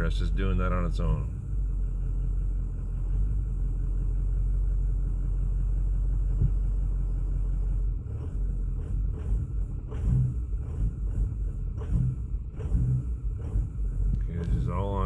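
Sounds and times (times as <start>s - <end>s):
diesel engine idling roughly: 0.0s - 15.0s.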